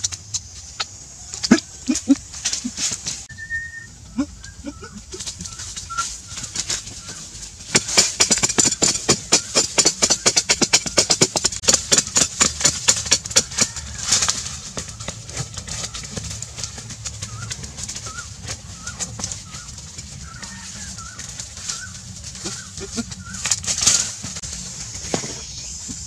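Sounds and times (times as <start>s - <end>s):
faint bird calls: 0.0s - 11.3s, 13.3s - 26.0s
hoe striking dry soil: 0.0s - 26.0s.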